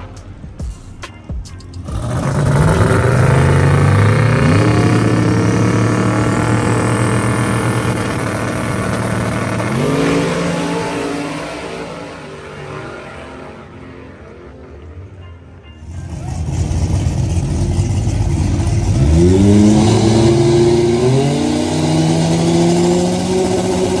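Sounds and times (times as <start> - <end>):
drag car engine accelerating: 1.8 - 14.8, 15.8 - 24.0.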